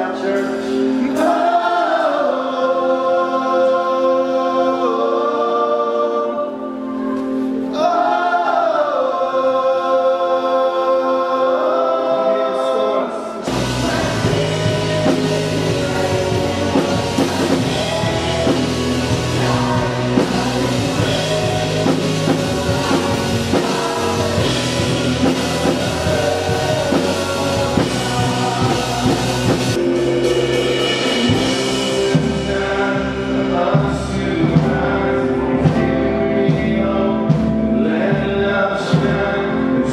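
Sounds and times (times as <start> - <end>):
voices singing: 0.0 - 39.9
worship band playing: 0.0 - 39.9.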